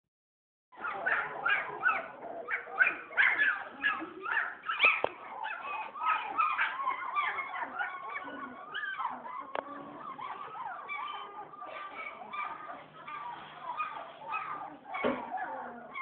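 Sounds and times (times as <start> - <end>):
puppies whimpering and yelping: 0.8 - 16.0.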